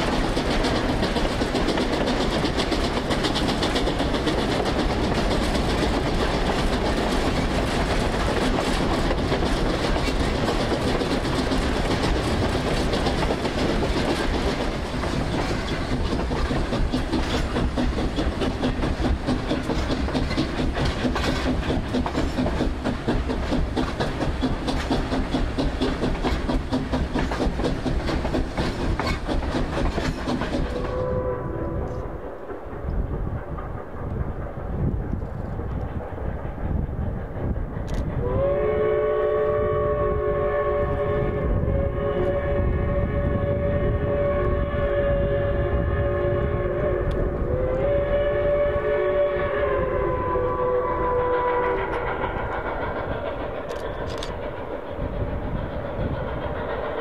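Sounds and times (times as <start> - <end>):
low train rumble: 0.0 - 57.0
train wheels clattering on rails: 0.0 - 57.0.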